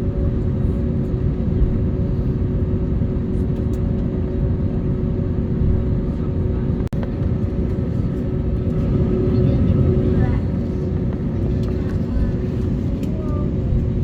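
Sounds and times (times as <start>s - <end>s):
airliner cabin engine rumble: 0.0s - 14.0s
steady hum tones: 0.0s - 14.0s.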